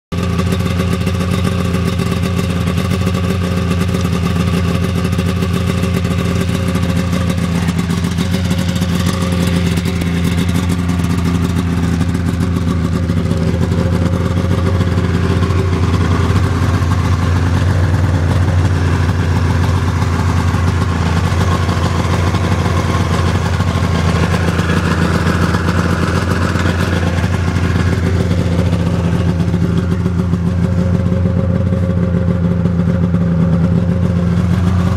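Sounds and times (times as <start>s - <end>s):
snowmobile engine running: 0.2s - 34.9s.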